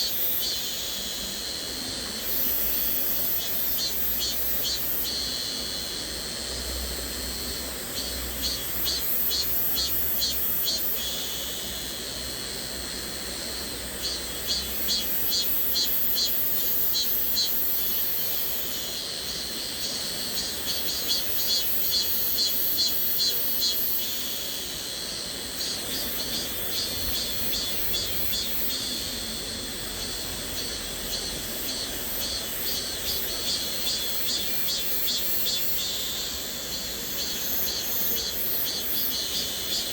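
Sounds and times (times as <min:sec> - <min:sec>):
cicadas buzzing: 0:00.0 - 0:39.9
steady high hiss: 0:00.0 - 0:39.9.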